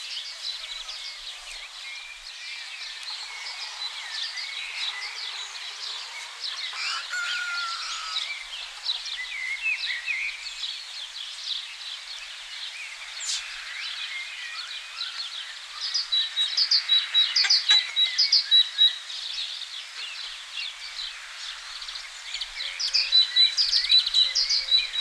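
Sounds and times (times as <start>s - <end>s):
songbirds chirping and twittering: 0.0s - 25.0s.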